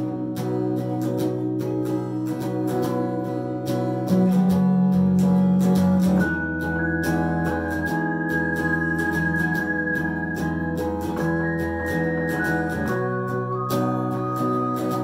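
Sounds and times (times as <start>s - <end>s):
electric guitar strumming: 0.0s - 15.0s.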